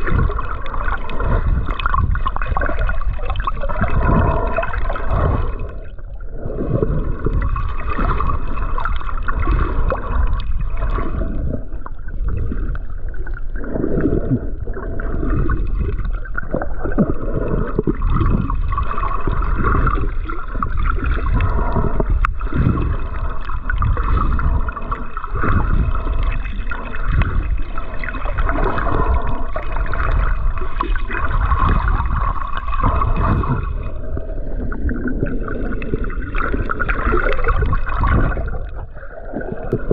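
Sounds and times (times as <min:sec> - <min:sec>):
steady low rumble: 0:00.0 - 0:39.9
water gurgling and sloshing: 0:00.0 - 0:39.9.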